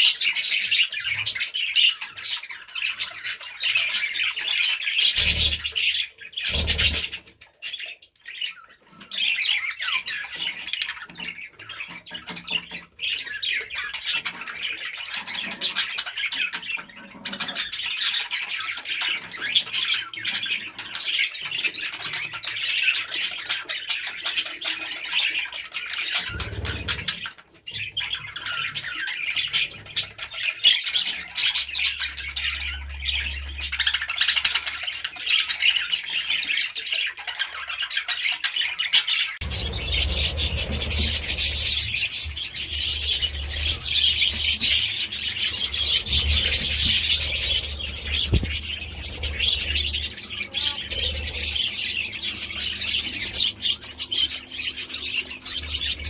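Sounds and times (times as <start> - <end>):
budgerigars chattering: 0.1 - 56.0.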